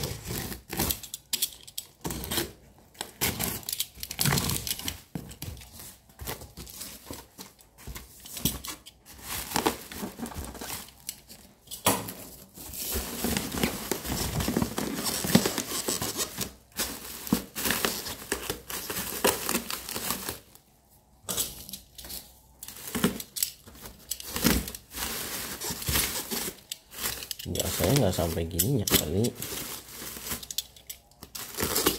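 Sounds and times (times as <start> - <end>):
plastic wrap crinkling and tearing: 0.0 - 11.6, 12.3 - 20.6, 21.4 - 31.9
cardboard rustling: 2.0 - 20.6, 22.1 - 31.9.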